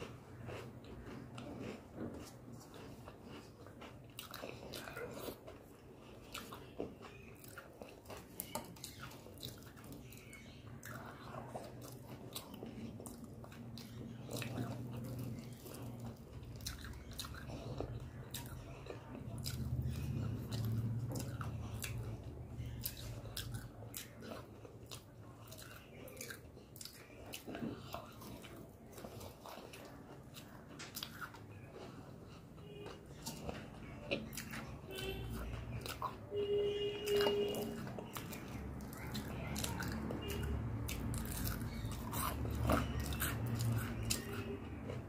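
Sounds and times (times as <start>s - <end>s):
person chewing food: 0.0s - 45.0s.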